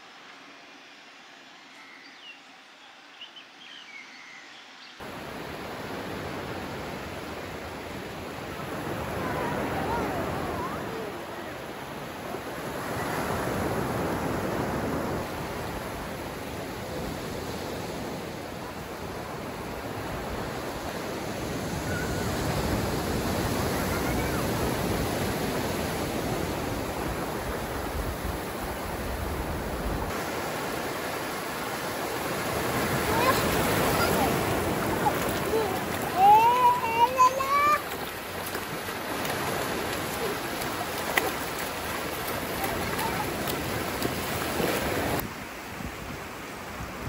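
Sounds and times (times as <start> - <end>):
wind: 0.0 - 47.0
sea surf rushing: 5.0 - 47.0.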